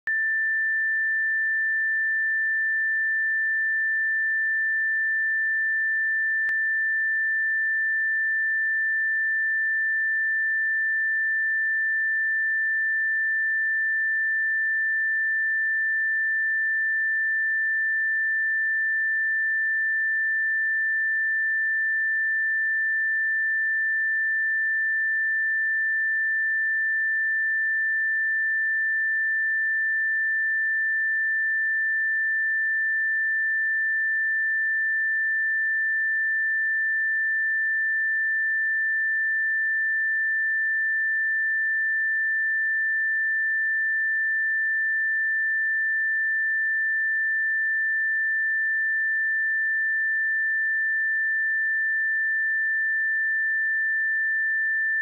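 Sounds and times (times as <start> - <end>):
high sine-wave test tone: 0.0 - 55.0.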